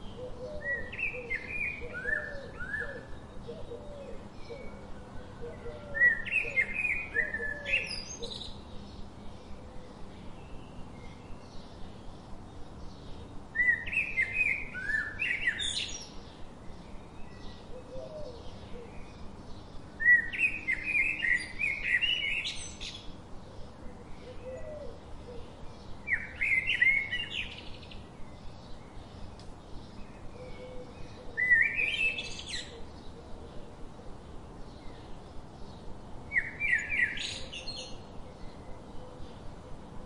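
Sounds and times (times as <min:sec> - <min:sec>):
soft lower bird calls: 0:00.0 - 0:40.0
songbird singing: 0:00.0 - 0:40.0.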